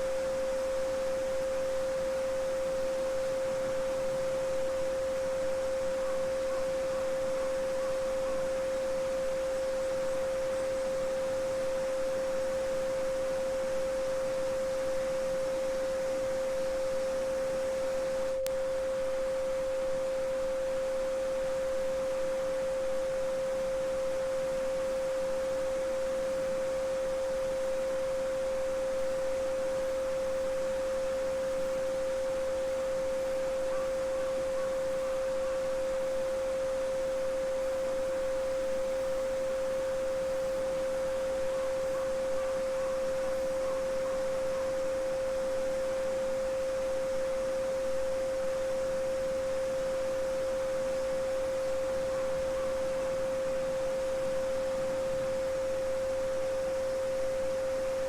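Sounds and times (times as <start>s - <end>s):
steady sine tone: 0.0s - 58.0s.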